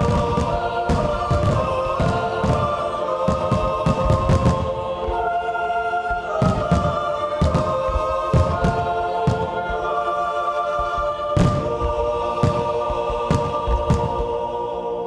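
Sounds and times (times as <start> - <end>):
low firework booms: 0.0 - 5.2, 6.4 - 9.8, 10.8 - 14.3
choir singing sustained chords: 0.0 - 15.0.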